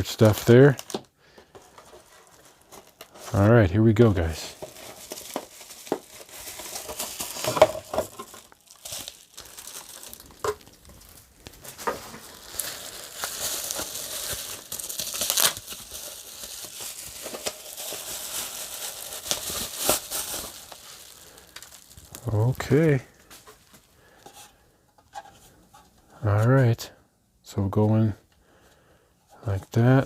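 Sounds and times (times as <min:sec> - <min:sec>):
packaging crinkling and rustling: 0:00.0 - 0:25.6.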